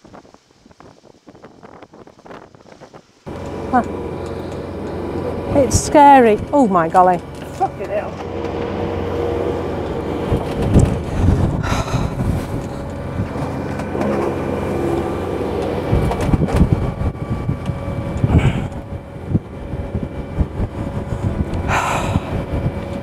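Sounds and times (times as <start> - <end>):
wind gusts buffeting microphone: 0.0 - 23.0
diesel engine humming: 3.3 - 23.0.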